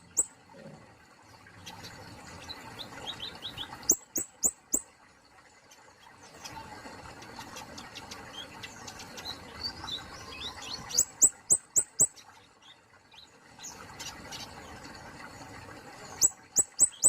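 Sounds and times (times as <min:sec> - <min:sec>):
bird chirping and twittering: 0:00.0 - 0:00.4, 0:01.6 - 0:04.9, 0:05.7 - 0:14.7, 0:16.0 - 0:17.0.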